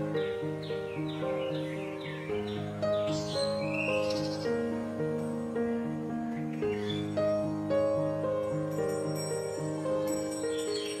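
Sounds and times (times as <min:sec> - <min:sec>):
bird chirp: 0:00.0 - 0:11.0
soft instrumental music: 0:00.0 - 0:11.0.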